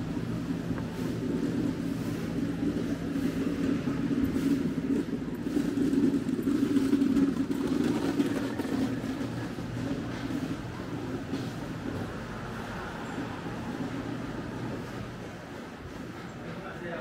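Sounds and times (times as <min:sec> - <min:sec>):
motor rumbling: 0:00.0 - 0:16.3
constant hum: 0:00.0 - 0:17.0.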